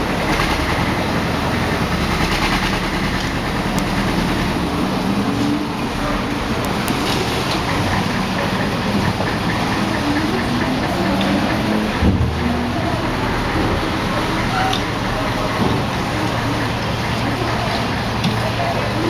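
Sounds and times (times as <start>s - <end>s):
engines and street traffic rumble: 0.0s - 19.0s.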